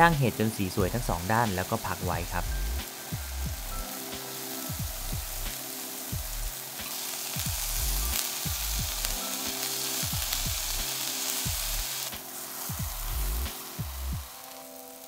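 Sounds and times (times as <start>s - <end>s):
background music: 0.0s - 15.0s
mushrooms sizzling in a frying pan: 0.0s - 15.0s.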